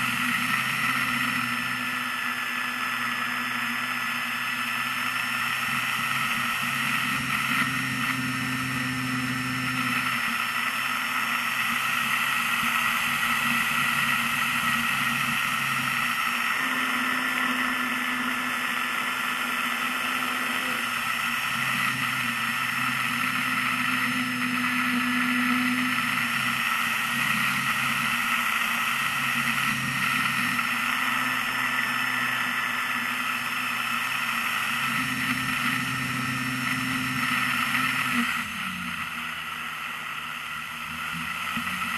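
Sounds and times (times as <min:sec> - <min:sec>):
low hum: 0:00.0 - 0:41.9
model airplane motor drone: 0:00.0 - 0:41.9.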